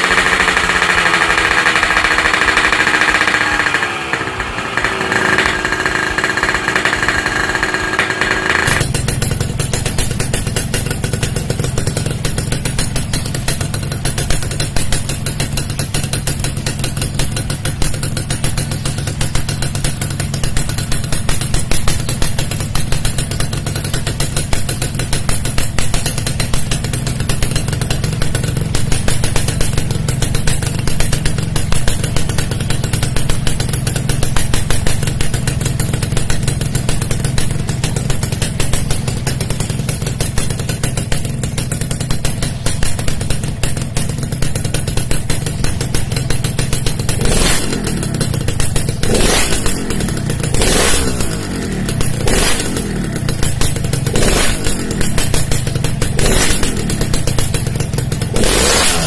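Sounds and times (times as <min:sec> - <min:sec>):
two-stroke engine popping exhaust: 0:00.0 - 0:59.0.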